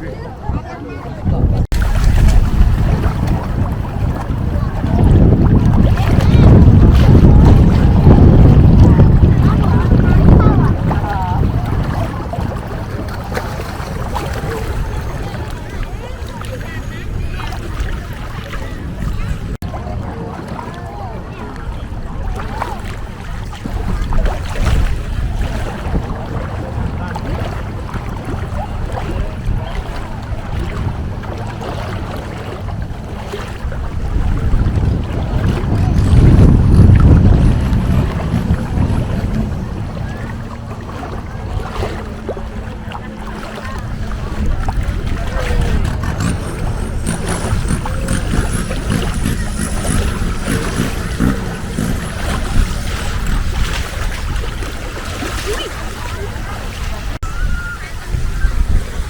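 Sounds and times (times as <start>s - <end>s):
boat engine rumbling: 0.0s - 59.0s
water noise: 0.0s - 59.0s
wind: 0.0s - 59.0s.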